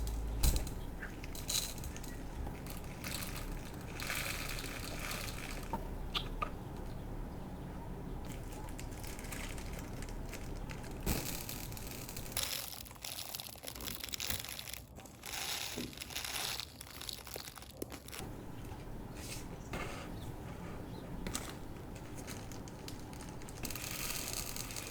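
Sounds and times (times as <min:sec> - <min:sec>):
plastic packaging crinkling: 0:00.0 - 0:05.8, 0:08.2 - 0:19.6, 0:21.2 - 0:24.9
sharp plastic crackle: 0:00.0 - 0:06.4, 0:08.2 - 0:20.5, 0:21.2 - 0:24.9.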